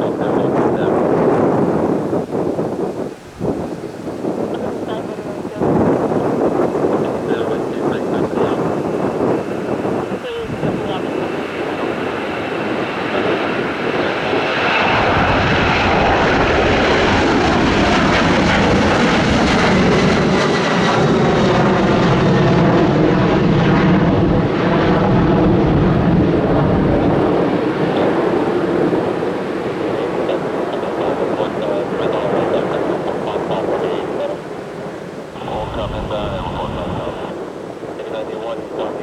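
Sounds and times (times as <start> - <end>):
airplane engines passing: 0.0 - 39.0.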